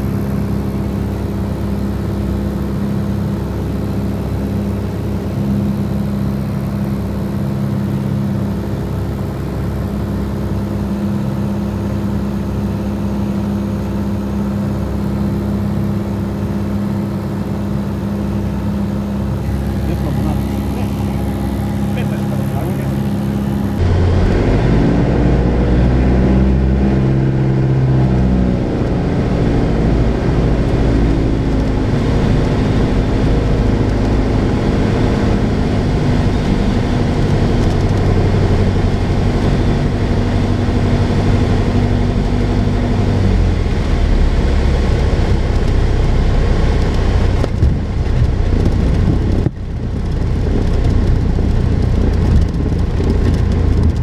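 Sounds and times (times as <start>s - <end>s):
plane engine and propeller droning: 0.0s - 54.0s.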